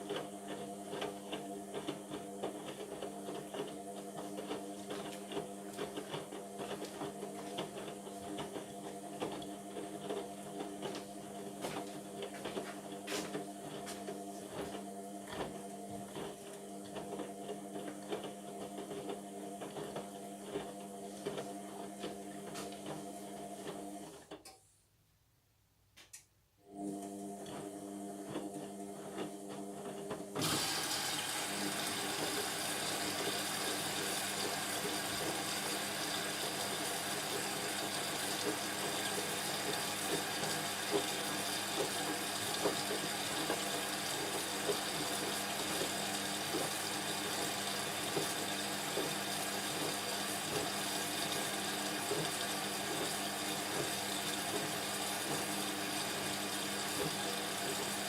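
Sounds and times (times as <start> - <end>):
washing machine hum: 0.0 - 24.5, 26.6 - 58.0.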